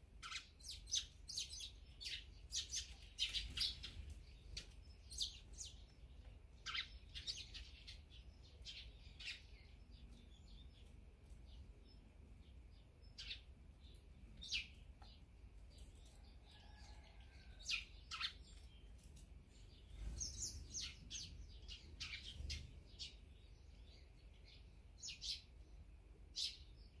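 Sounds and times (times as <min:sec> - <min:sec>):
small songbirds chirping: 0:00.0 - 0:27.0.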